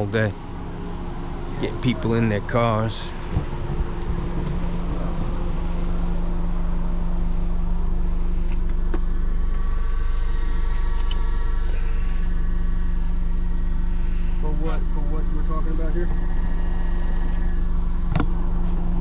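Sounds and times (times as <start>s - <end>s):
faint high whine: 0.0s - 19.0s
motor humming: 0.0s - 19.0s.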